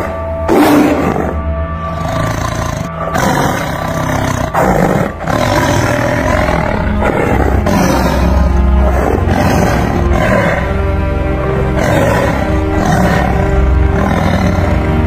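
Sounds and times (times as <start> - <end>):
tiger roaring and growling: 0.0 - 15.0.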